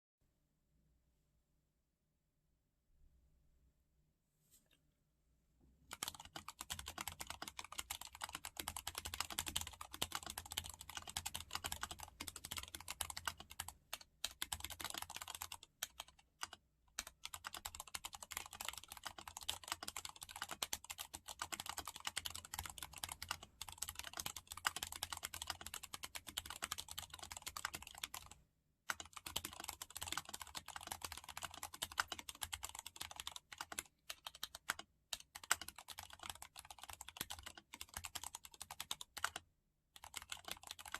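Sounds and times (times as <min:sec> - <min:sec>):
mechanical keyboard typing: 0:05.9 - 0:39.4, 0:40.0 - 0:40.9.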